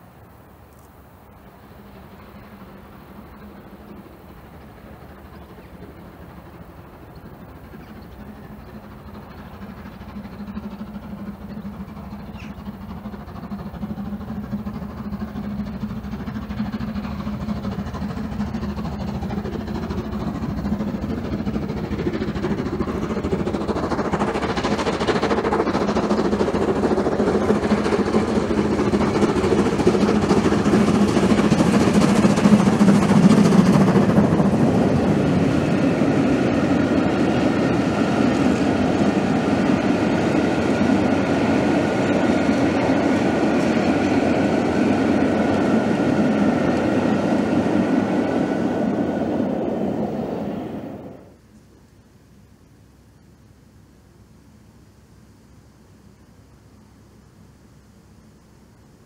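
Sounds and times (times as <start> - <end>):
coaches rolling on rails: 0.0 - 51.4
steam locomotive passing: 0.0 - 51.4.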